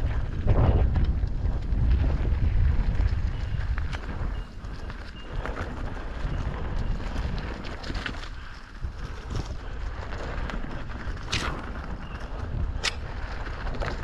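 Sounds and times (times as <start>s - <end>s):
bike clicks and rattles: 0.0s - 14.0s
wind buffeting microphone: 0.0s - 14.0s.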